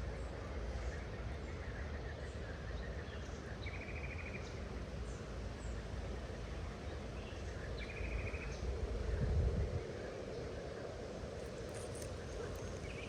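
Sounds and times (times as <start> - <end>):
outdoor background hiss: 0.0 - 13.0
songbirds chirping: 0.0 - 13.0.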